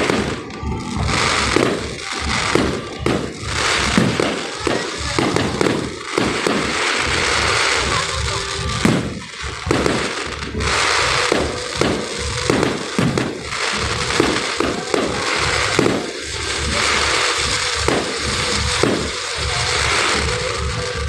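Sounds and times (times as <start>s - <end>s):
firework bangs: 0.0s - 21.0s
firework crackling: 0.0s - 21.0s.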